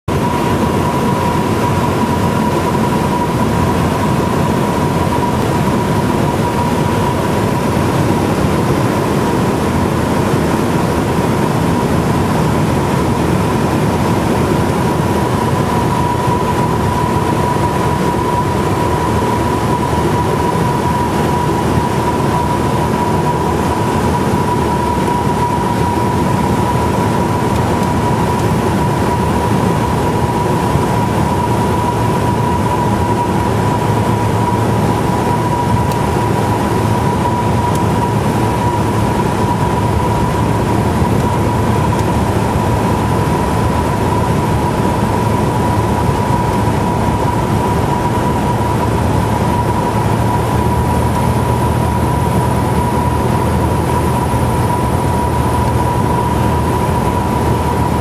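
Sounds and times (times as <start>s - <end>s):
airplane cabin engine drone: 0.1s - 58.0s.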